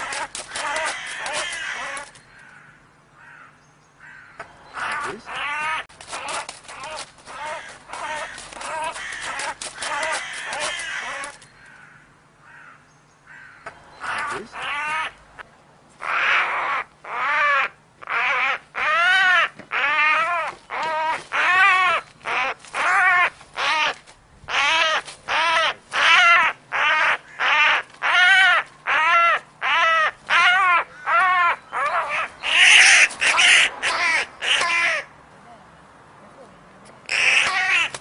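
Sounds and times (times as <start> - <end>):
crow cawing harshly: 0.0 - 15.2, 16.0 - 35.1, 37.1 - 38.0.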